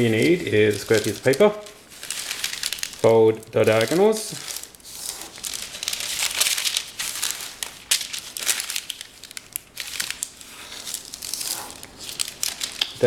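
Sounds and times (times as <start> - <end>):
parchment paper crinkling: 0.0 - 13.0.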